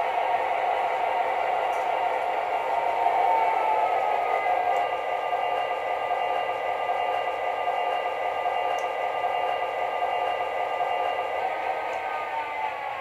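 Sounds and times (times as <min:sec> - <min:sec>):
model train diesel engine sound: 0:00.0 - 0:13.0.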